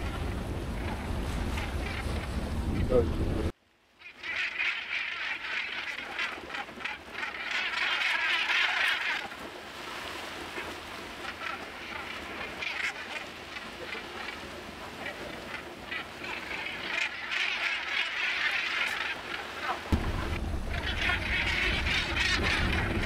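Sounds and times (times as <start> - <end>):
seabirds calling: 0.0 - 2.9, 4.0 - 23.0.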